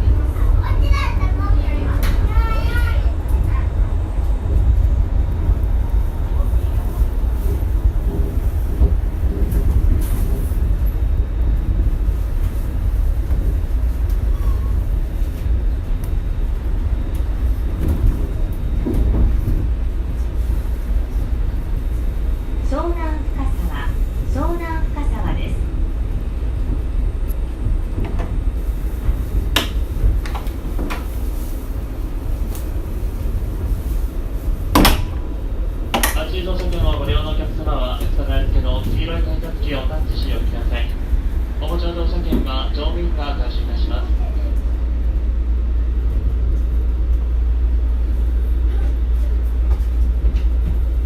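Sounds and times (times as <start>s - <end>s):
monorail car low rumble: 0.0s - 51.0s.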